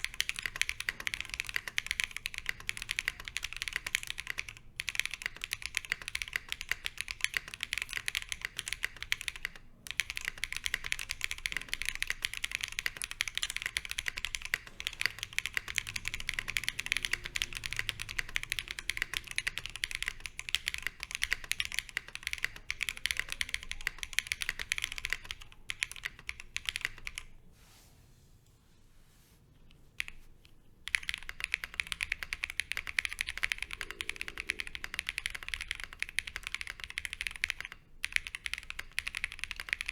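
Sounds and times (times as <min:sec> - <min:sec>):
fast mechanical keyboard typing: 0:00.0 - 0:27.3, 0:30.8 - 0:39.9.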